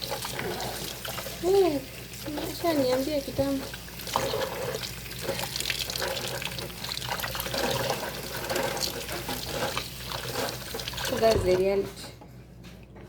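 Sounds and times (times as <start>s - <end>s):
tap water running into sink: 0.0s - 11.8s.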